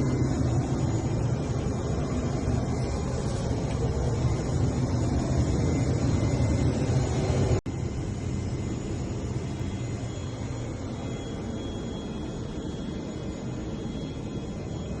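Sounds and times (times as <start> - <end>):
high-pitched whining tones: 0.0 - 15.0.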